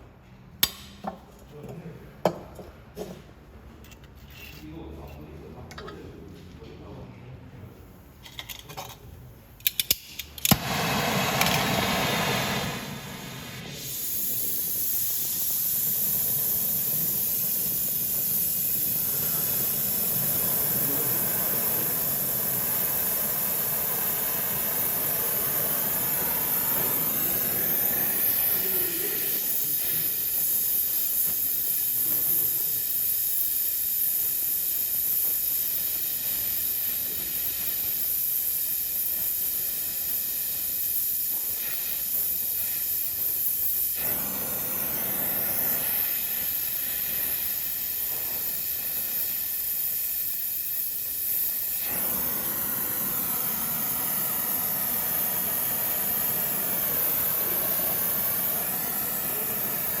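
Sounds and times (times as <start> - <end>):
steady hiss: 10.4 - 60.0.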